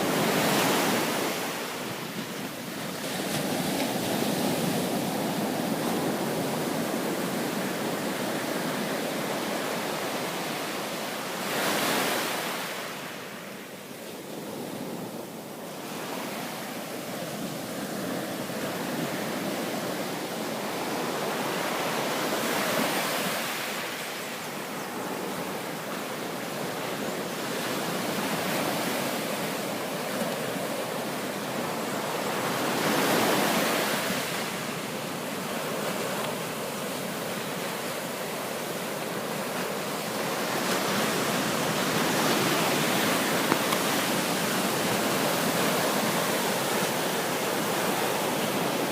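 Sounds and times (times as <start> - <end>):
ocean surf breaking: 0.0 - 13.3, 14.4 - 48.9.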